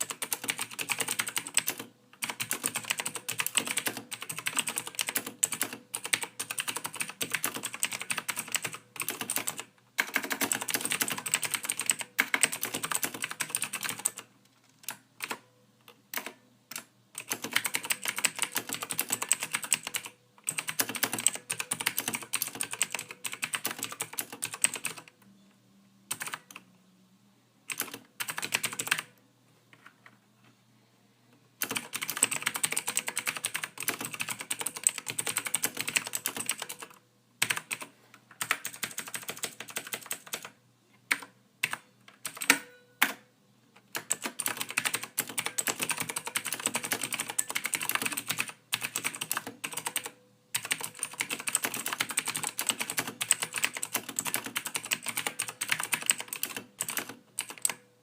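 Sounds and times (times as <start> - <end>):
typing on computer keyboard: 0.0 - 25.2, 26.1 - 26.6, 27.7 - 29.1, 31.6 - 43.2, 43.8 - 57.8.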